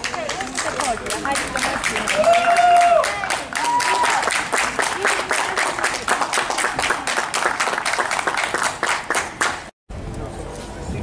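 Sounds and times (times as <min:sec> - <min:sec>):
people clapping in rhythm: 0:00.0 - 0:09.7.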